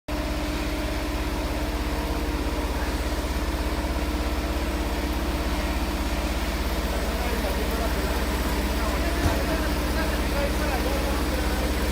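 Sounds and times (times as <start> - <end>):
quilting machine running: 0.1 - 11.9.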